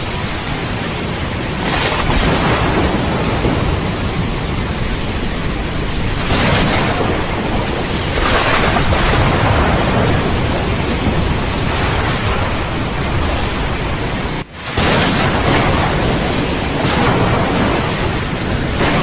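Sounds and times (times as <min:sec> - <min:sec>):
heavy rain: 0:00.0 - 0:19.0
rolling thunder rumble: 0:00.0 - 0:19.0.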